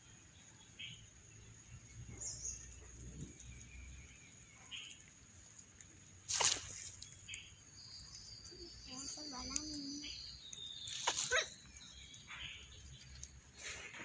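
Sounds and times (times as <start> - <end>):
faint high chirping calls: 0.0 - 14.0.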